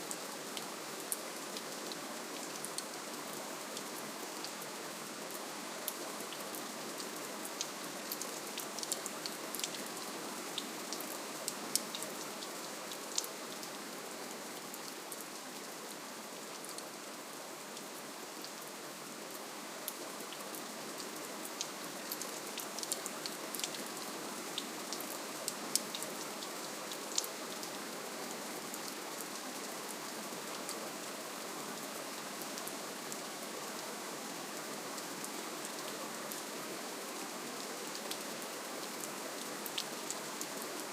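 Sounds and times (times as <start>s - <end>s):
light rain hiss: 0.0s - 40.9s.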